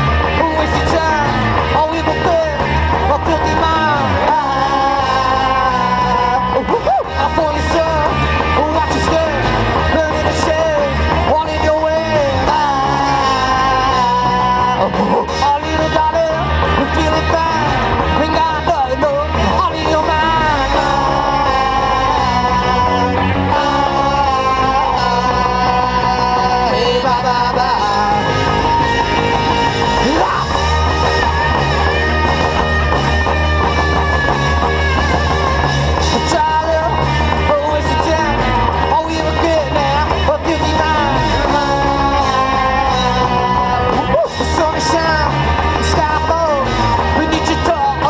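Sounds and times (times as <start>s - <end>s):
electric guitar lead melody: 0.0s - 48.0s
live rock band: 0.0s - 48.0s.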